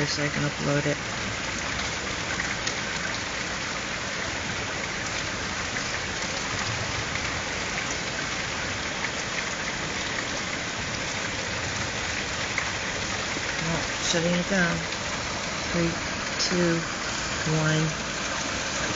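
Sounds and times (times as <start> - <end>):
raindrops ticking close by: 0.0 - 18.9
steady rain: 0.0 - 18.9.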